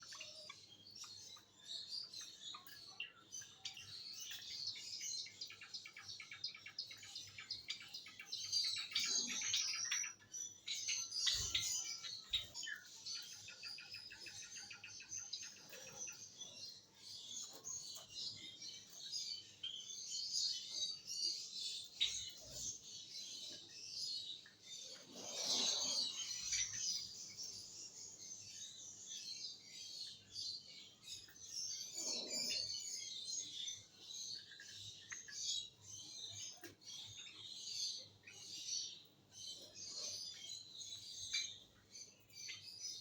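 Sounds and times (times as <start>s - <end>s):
sparrows chirping: 0.0s - 43.0s.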